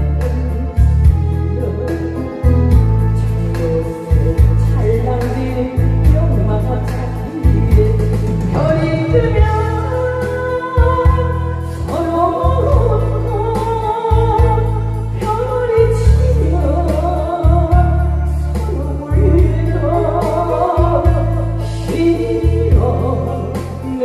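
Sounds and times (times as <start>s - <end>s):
amplified music with pulsing bass: 0.0s - 24.0s
woman singing with vibrato: 0.0s - 24.0s.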